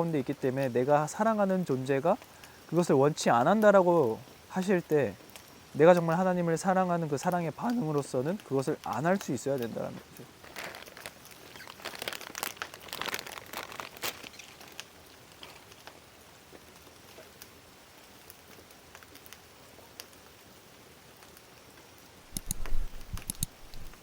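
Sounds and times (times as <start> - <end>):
faint hiss: 0.0 - 24.0
light rain pattering: 0.0 - 24.0.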